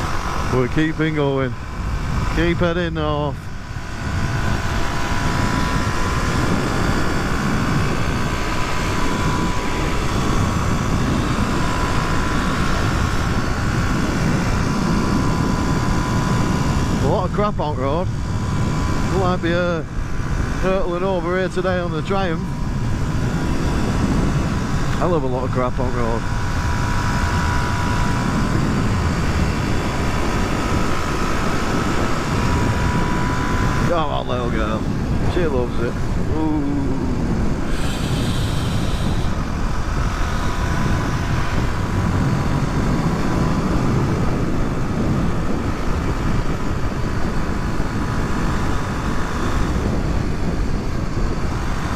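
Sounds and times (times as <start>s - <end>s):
faint steady whine: 0.0s - 51.9s
motorcycle engine cruising: 0.0s - 51.9s
wind rush on microphone: 0.0s - 51.9s.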